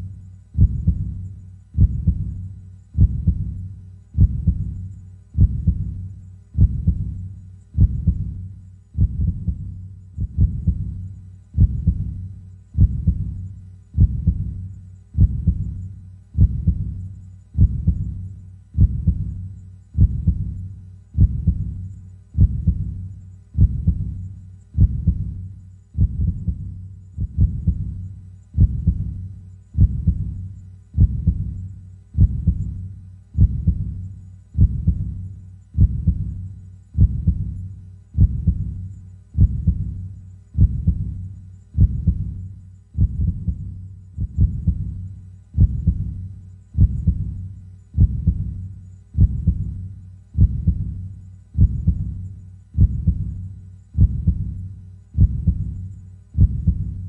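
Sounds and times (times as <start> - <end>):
slow heartbeat: 0.0 - 57.0.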